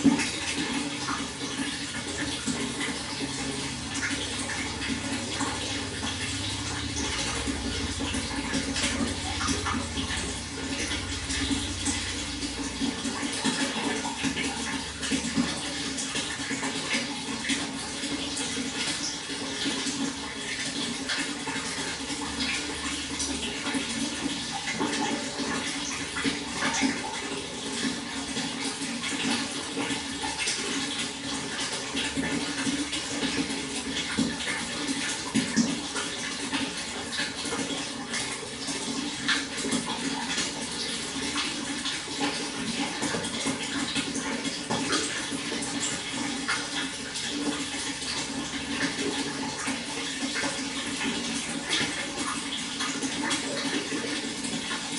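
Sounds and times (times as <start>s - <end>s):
water flowing and splashing: 0.0s - 54.9s.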